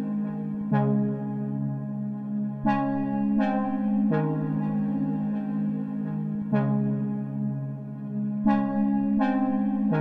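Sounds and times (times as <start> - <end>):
ambient synth chords: 0.0 - 10.0.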